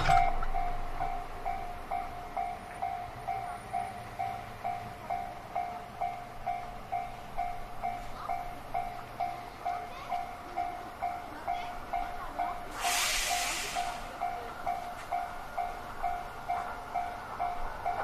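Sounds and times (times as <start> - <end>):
level crossing warning bell: 0.0 - 18.0
train rumble: 0.0 - 18.0.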